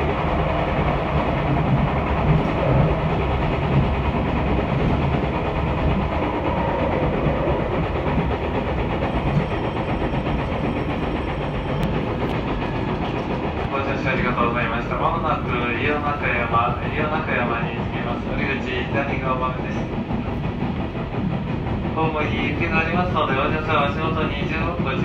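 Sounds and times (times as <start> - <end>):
train rumbling in a tunnel: 0.0 - 25.0.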